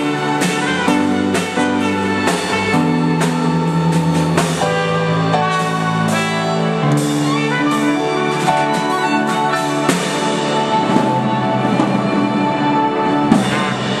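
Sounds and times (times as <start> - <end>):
keyboards: 0.0 - 14.0
trumpet: 0.0 - 14.0
violin: 0.0 - 14.0.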